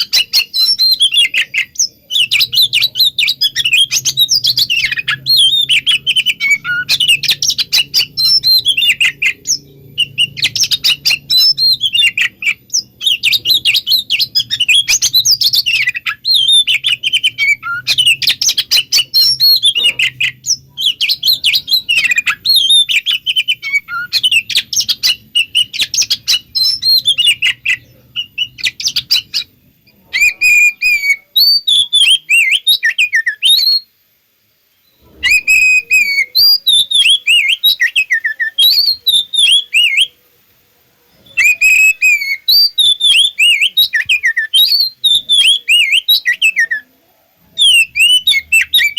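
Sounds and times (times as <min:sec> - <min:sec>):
bird singing chattering phrases: 0:00.0 - 0:33.8, 0:34.9 - 0:40.2, 0:41.1 - 0:46.9, 0:47.5 - 0:48.9.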